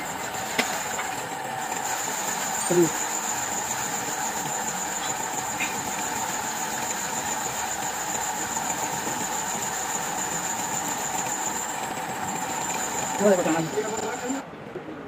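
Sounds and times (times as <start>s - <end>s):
boring machine running with whine: 0.0s - 14.5s.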